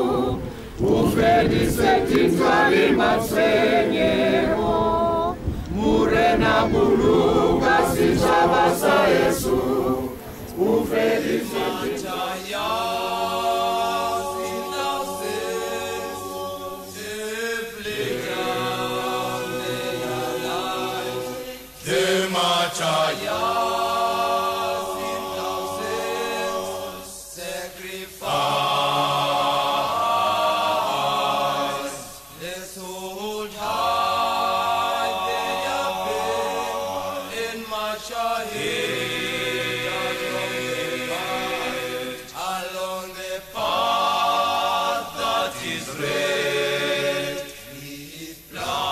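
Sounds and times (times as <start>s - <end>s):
group singing a cappella: 0.0s - 48.9s.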